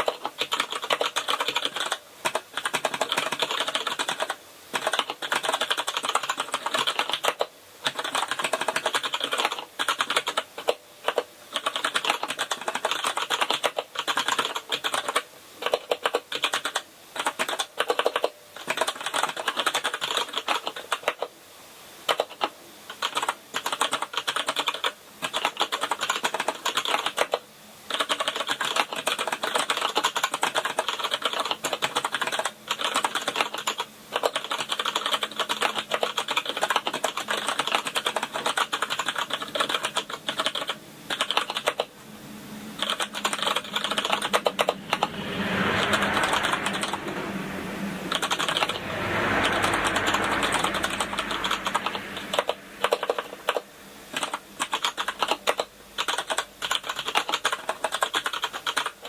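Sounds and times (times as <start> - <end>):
fast typing on keyboard: 0.0 - 21.3, 22.1 - 41.9, 42.8 - 45.0, 48.2 - 48.7, 51.7 - 59.0.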